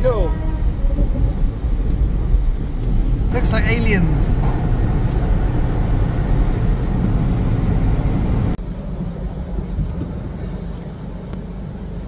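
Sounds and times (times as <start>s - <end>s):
deep machinery rumble: 0.0s - 12.0s.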